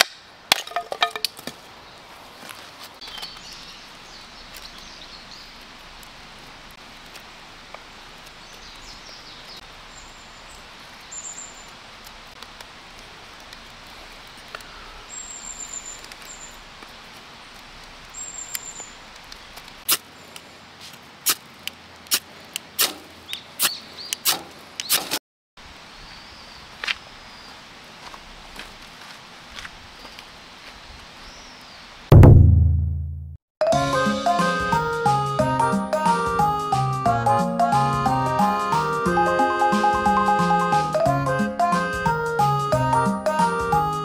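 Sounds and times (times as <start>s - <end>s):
outdoor background: 0.0s - 44.0s.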